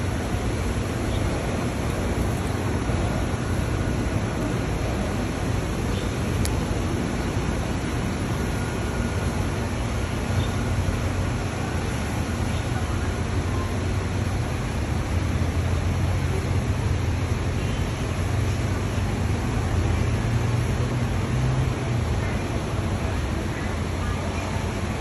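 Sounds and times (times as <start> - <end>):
buses idling rumble: 0.0 - 25.0.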